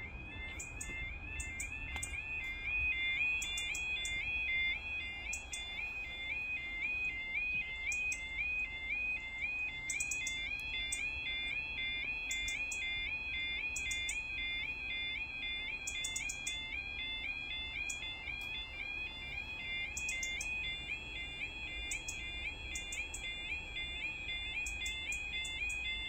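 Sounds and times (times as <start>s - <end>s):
level crossing alarm warbling: 0.0s - 26.0s.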